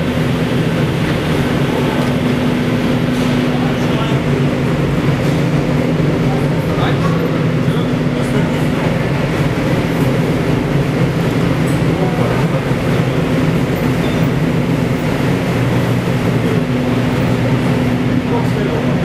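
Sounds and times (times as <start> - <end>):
heavy machinery droning: 0.0 - 19.0.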